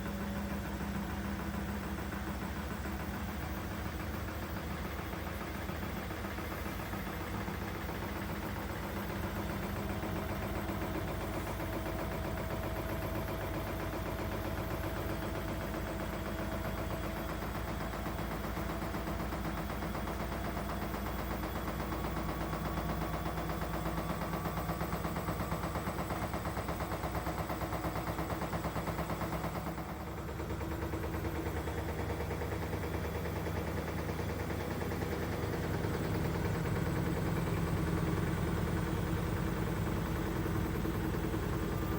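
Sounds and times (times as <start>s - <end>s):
washing machine motor humming: 0.0s - 41.9s.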